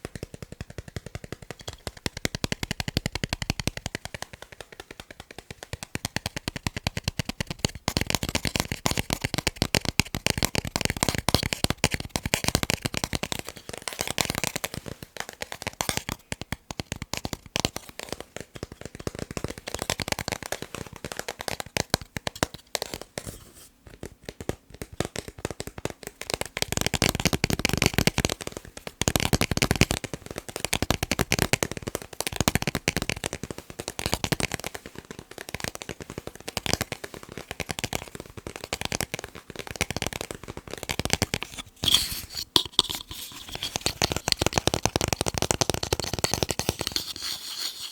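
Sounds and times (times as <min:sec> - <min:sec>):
fast tapping on picture frames: 0:00.0 - 0:47.9.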